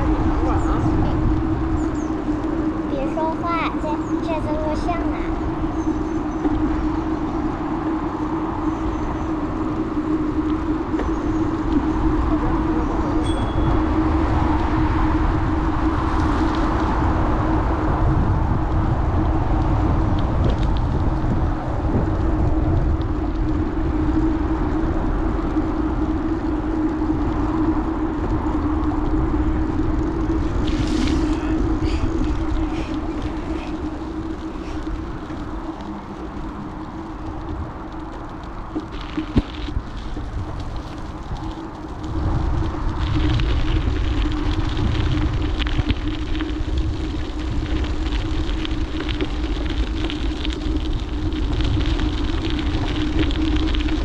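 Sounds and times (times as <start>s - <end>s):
bicycle tyres rolling: 0.0s - 54.0s
steady hum: 0.0s - 54.0s
wind over microphone: 0.0s - 54.0s.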